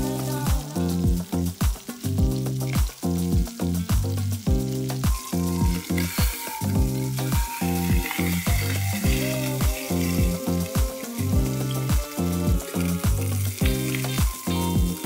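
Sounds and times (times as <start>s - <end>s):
background music with beat: 0.0s - 15.0s
chicken sizzling in hot oil: 0.0s - 15.0s.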